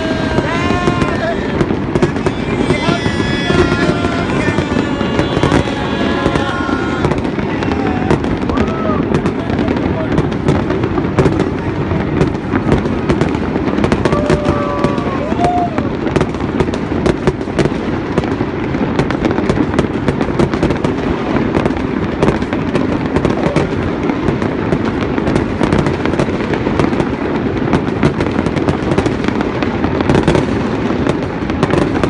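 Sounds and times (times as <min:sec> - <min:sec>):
fireworks bangs and crackles: 0:00.0 - 0:32.0
rumble of fireworks bursts: 0:00.0 - 0:32.0.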